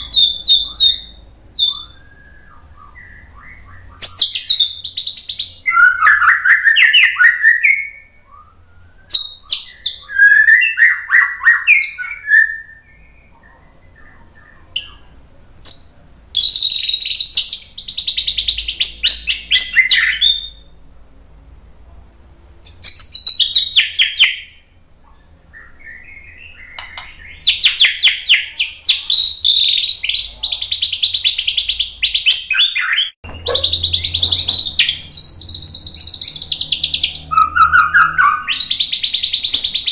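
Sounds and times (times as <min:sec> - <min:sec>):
bird singing rattling notes: 0:00.0 - 0:20.7, 0:25.3 - 0:39.9.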